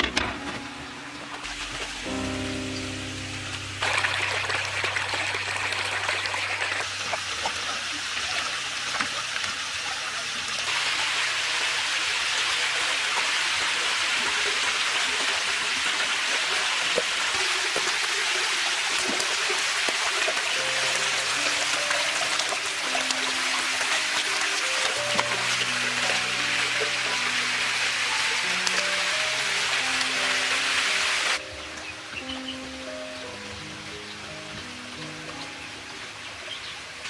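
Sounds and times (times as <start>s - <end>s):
running water splashing: 0.8s - 32.2s.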